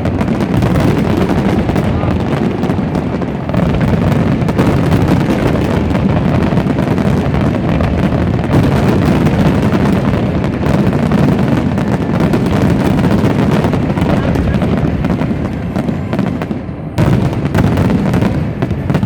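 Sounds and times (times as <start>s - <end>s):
fireworks bangs and crackle: 0.0s - 19.0s.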